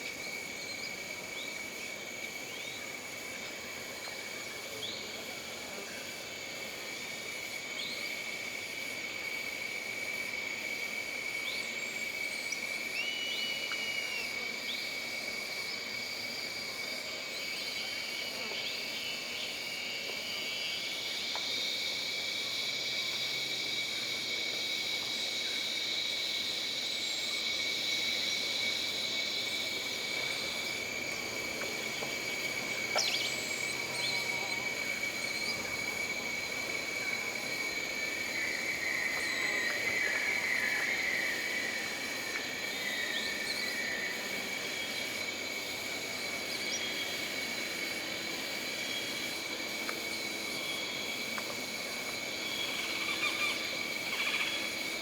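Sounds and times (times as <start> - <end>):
trilling insect call: 0.0 - 55.0
high-pitched insect drone: 6.3 - 55.0.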